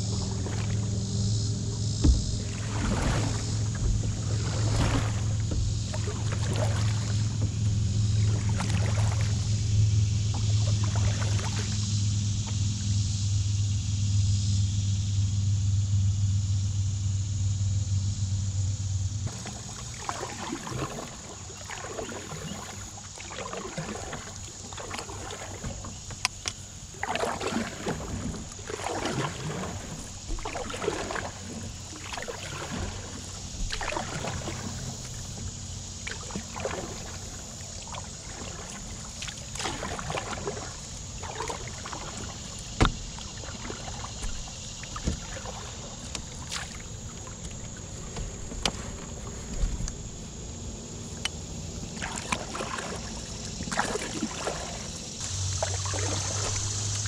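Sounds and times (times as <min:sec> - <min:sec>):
canoe paddle strokes in water: 0:00.0 - 0:57.0.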